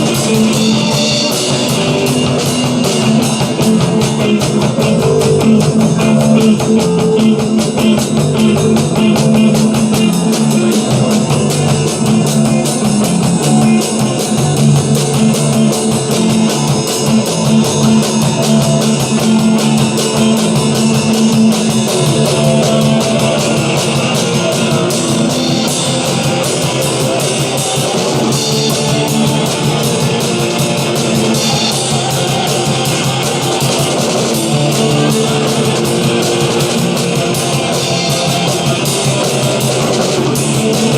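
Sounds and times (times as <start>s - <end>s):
drum kit beat: 0.0s - 40.9s
electric guitar: 0.0s - 40.9s
rock band playing: 0.0s - 40.9s.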